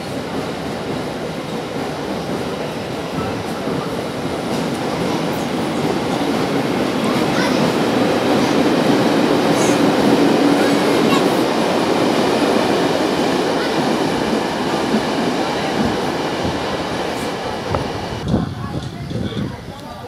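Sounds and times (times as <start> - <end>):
train rumbling past: 0.0 - 19.6.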